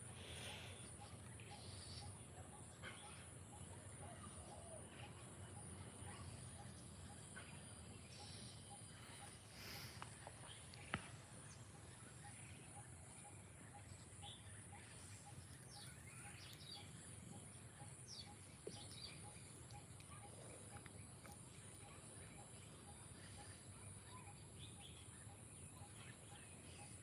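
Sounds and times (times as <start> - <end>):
small birds chirping: 0.1 - 27.0.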